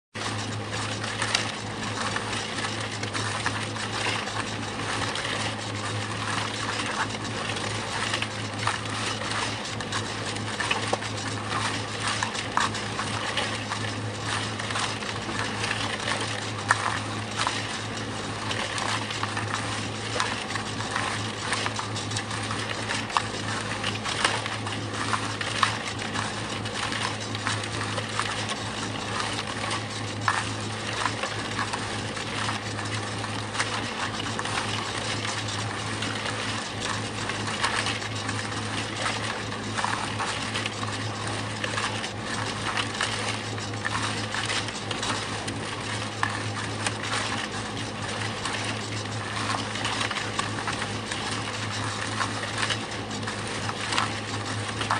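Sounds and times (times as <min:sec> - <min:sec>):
concrete mixer motor hum: 0:00.1 - 0:54.9.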